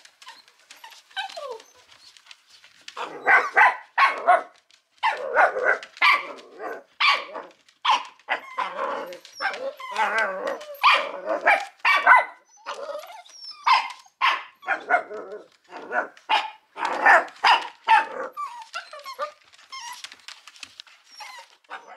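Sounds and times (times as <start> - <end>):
puppies barking: 2.9 - 21.9.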